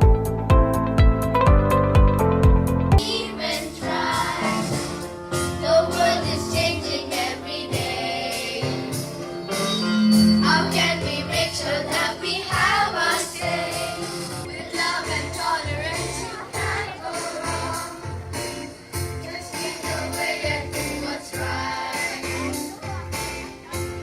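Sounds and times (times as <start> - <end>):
song with singing voices: 3.0 - 23.8.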